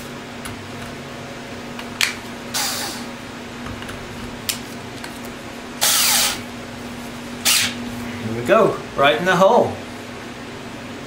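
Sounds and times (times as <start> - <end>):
heater humming: 0.0 - 11.0.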